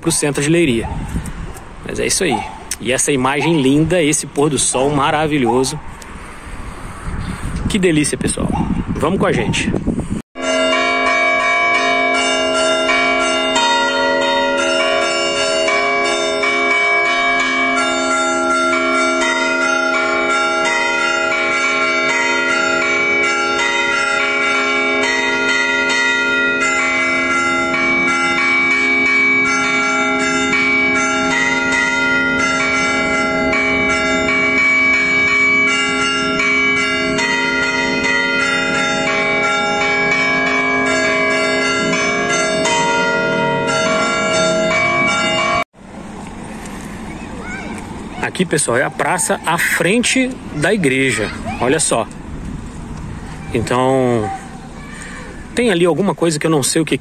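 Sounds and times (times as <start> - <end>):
church bells ringing: 1.9 - 5.8, 10.4 - 45.7, 48.2 - 52.2, 53.6 - 57.0.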